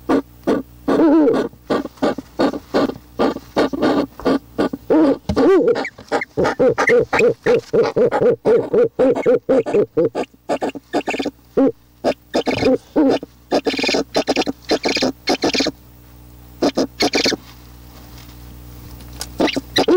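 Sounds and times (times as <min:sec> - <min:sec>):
animal making growly calls: 0:00.1 - 0:15.7, 0:19.4 - 0:19.9.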